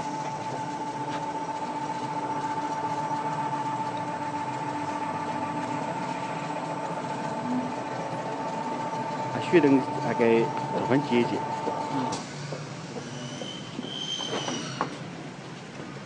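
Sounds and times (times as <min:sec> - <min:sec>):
machine motor hum with whine: 0:00.0 - 0:14.0.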